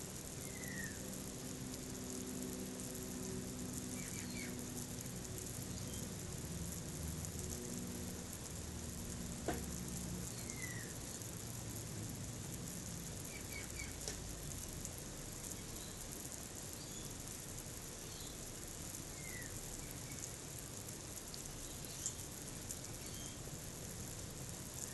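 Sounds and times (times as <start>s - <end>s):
low steady hum: 0.0s - 24.9s
water spraying from a hose: 0.0s - 24.9s.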